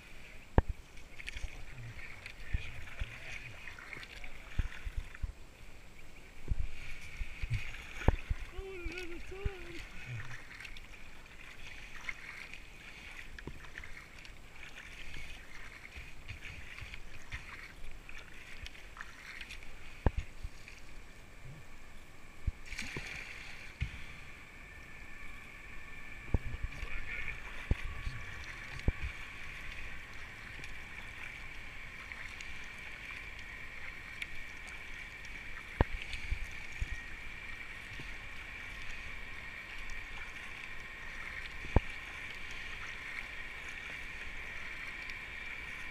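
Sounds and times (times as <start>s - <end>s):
water washing along kayak hull: 0.0s - 45.9s.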